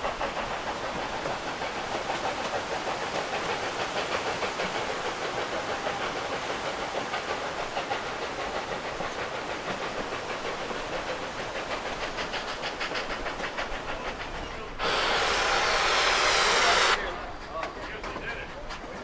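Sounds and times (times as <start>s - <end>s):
loud steam hiss: 0.0s - 17.6s
steam hissing: 0.0s - 19.0s
steam locomotive exhaust beating: 0.0s - 19.0s.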